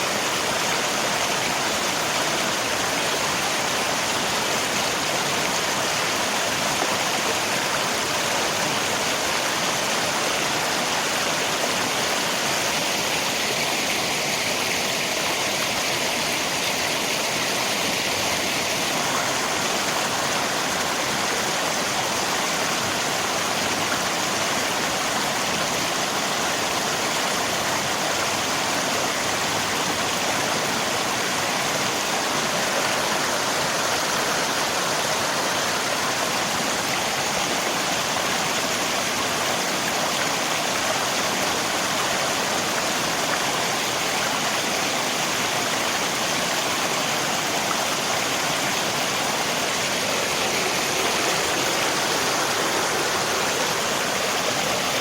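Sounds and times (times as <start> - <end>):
rain: 0.0 - 55.0
river water rushing: 0.0 - 55.0.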